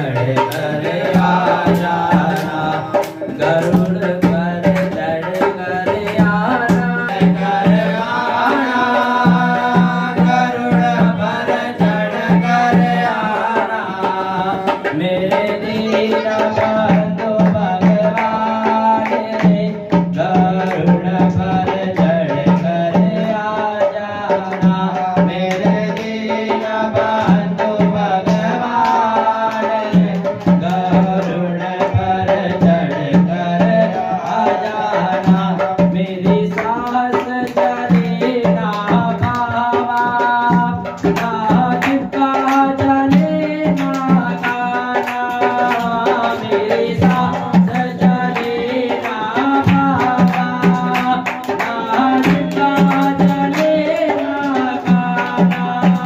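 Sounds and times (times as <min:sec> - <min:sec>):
man singing devotional song: 0:00.0 - 0:56.0
tabla rhythm: 0:00.0 - 0:56.0.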